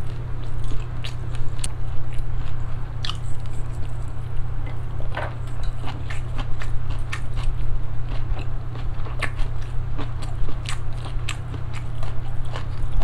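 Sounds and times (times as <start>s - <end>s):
chewing shrimp: 0.0s - 13.0s
steady low hum: 0.0s - 13.0s.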